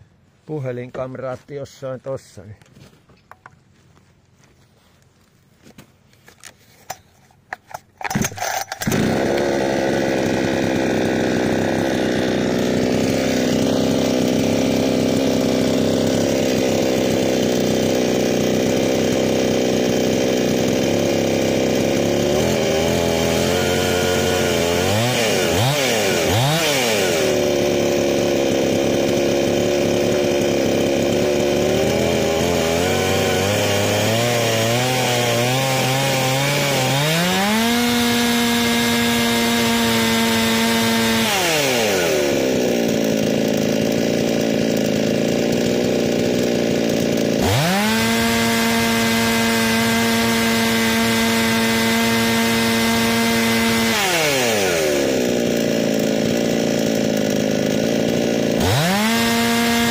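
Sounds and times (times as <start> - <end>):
chainsaw starting and idling: 6.0 - 59.9.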